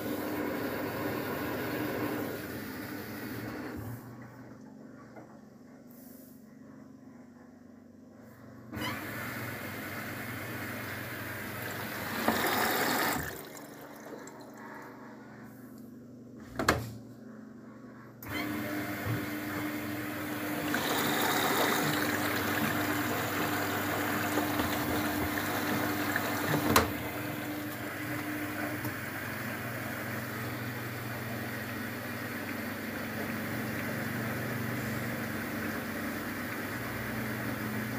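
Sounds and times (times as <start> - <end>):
washing machine water rushing in: 0.0 - 5.6, 8.8 - 15.5, 18.2 - 37.9.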